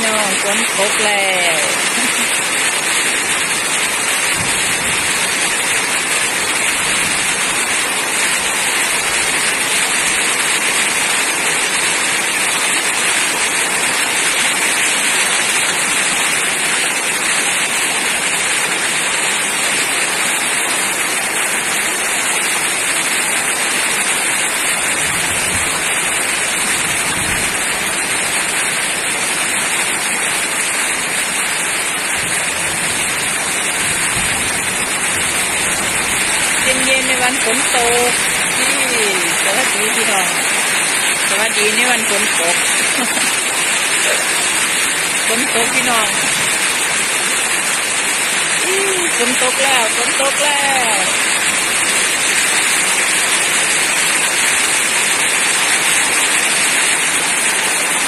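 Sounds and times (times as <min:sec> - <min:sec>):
heavy rain hissing: 0:00.0 - 0:58.0.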